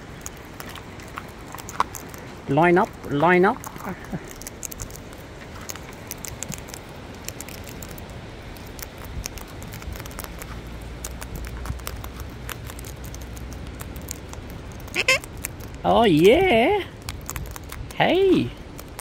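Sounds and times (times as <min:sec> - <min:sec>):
beaks cracking seeds: 0:00.0 - 0:19.0.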